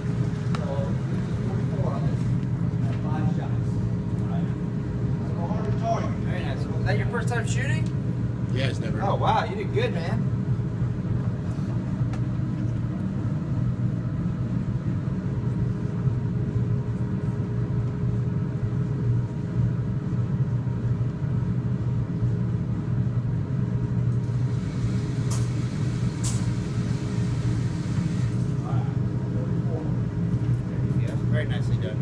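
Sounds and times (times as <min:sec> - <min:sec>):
constant hum: 0:00.0 - 0:32.0
low mechanical rumble: 0:00.0 - 0:32.0.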